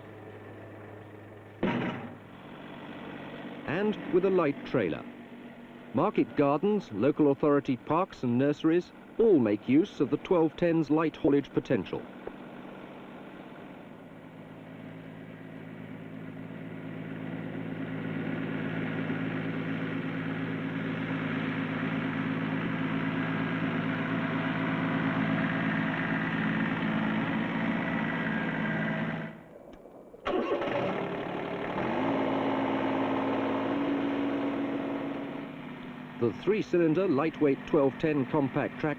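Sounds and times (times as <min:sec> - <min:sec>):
diesel tractor engine running: 0:00.0 - 0:29.6, 0:30.2 - 0:38.9.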